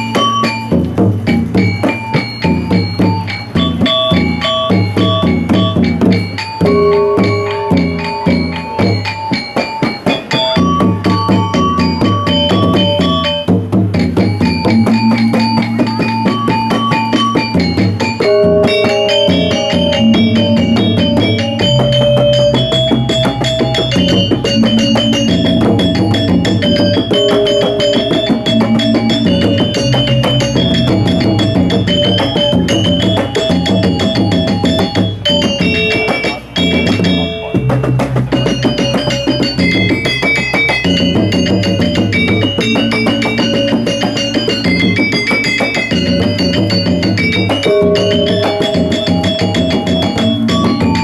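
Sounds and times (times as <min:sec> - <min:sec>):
hand drums: 0:00.0 - 0:51.0
metallophones ringing: 0:00.0 - 0:51.0.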